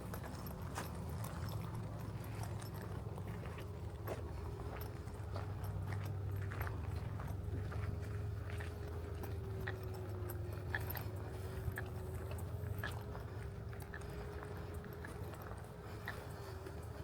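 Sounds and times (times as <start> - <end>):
faint steady hum: 0.0 - 17.0
footsteps crunching on trail: 0.0 - 17.0.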